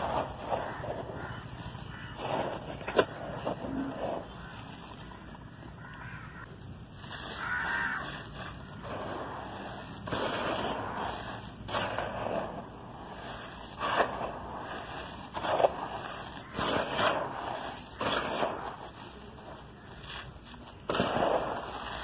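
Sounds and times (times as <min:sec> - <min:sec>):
hand crunching charcoal powder: 0:00.0 - 0:22.0.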